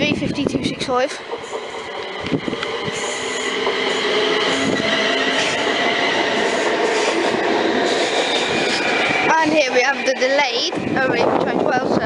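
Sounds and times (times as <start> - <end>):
train running past: 0.0 - 12.0
high held tones: 1.1 - 11.2.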